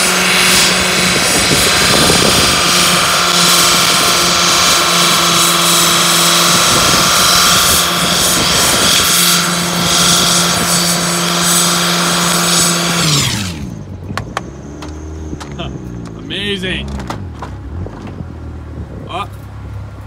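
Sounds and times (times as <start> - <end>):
car engine revving high: 0.0 - 20.0.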